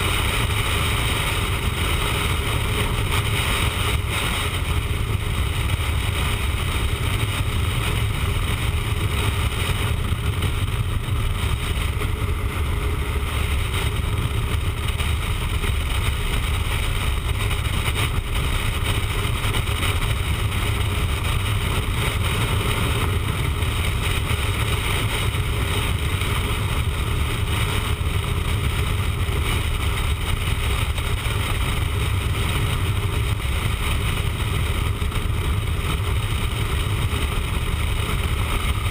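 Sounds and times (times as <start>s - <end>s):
motorcycle engine drone: 0.0s - 38.9s
rushing wind: 0.0s - 38.9s.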